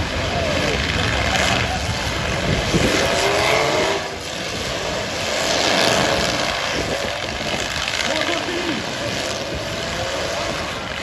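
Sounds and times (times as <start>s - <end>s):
car engines revving hard: 0.0s - 11.0s
loud noisy background: 0.0s - 11.0s.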